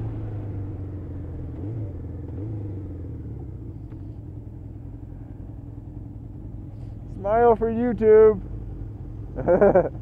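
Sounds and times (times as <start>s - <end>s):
motorcycle engine running: 0.0s - 10.0s
wind and road noise: 0.0s - 10.0s.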